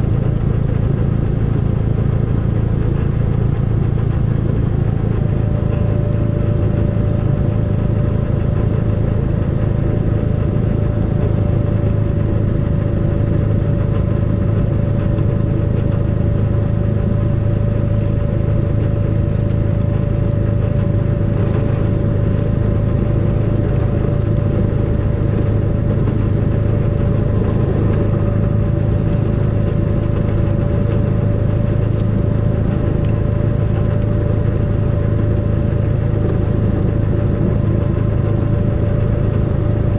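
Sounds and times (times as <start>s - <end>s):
snowplough engine humming: 0.0s - 39.9s.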